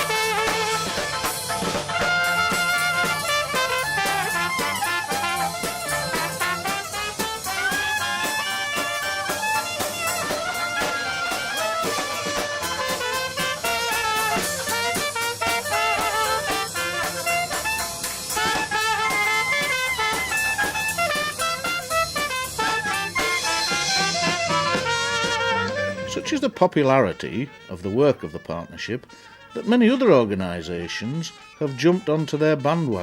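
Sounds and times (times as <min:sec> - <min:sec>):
band playing upbeat jazz: 0:00.0 - 0:33.0.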